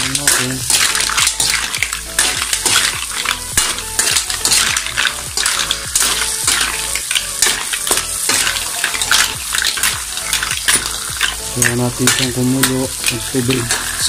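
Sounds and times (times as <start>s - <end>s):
butter and oil sizzling: 0.0s - 14.0s
shells and utensil scraping wok: 0.0s - 14.0s.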